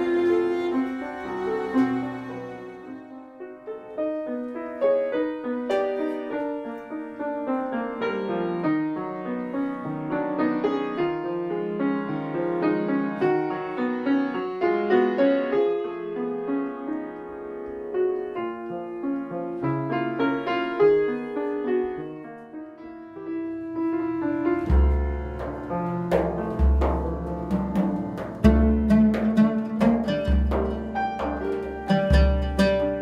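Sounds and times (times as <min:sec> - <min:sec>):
upright piano playing: 0:00.0 - 0:33.0.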